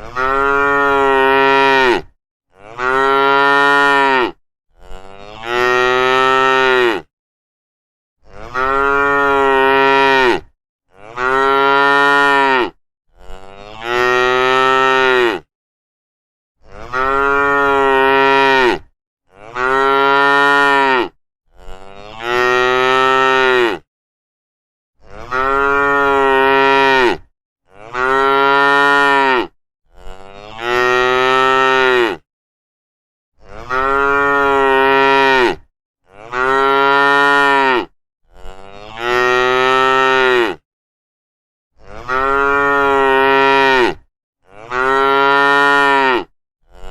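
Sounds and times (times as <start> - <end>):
cattle mooing: 0.0 - 7.1, 8.2 - 15.5, 16.8 - 23.8, 25.1 - 32.2, 33.5 - 40.6, 41.9 - 46.9.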